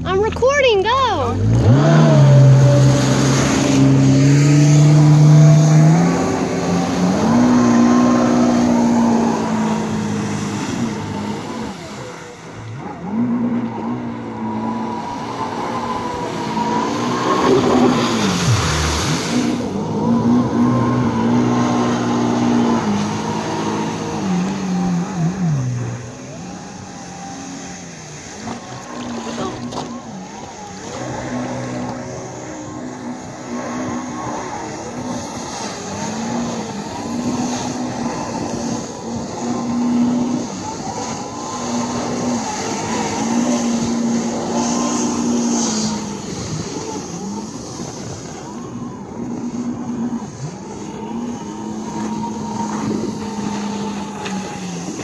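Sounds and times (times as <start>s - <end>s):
jet ski engines revving: 0.0s - 55.0s
water spray rushing: 1.5s - 55.0s.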